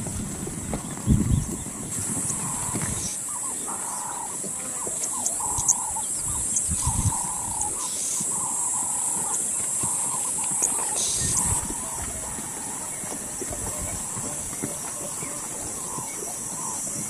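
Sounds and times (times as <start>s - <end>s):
zebras barking yelps: 2.2s - 17.0s.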